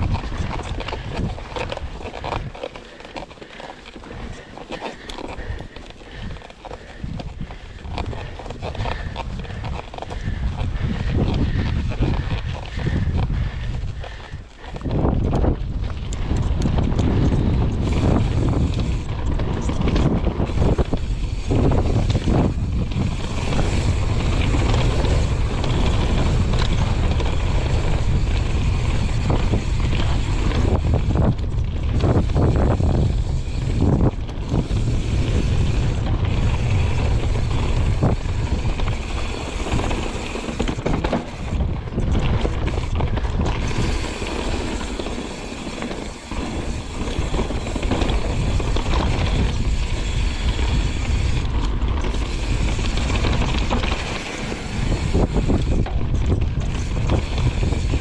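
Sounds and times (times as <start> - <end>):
wind on microphone: 0.0 - 3.2, 4.0 - 58.0
bike rattles and knocks: 0.0 - 58.0
bike tyres on rough ground: 0.0 - 58.0.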